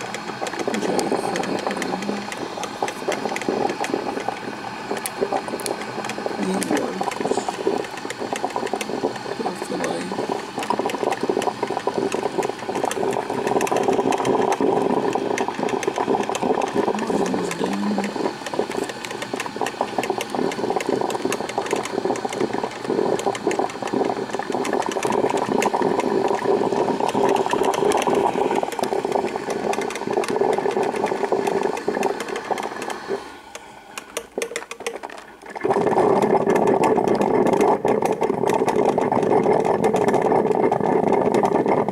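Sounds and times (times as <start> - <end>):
coffee maker sputtering and gurgling: 0.0 - 41.9.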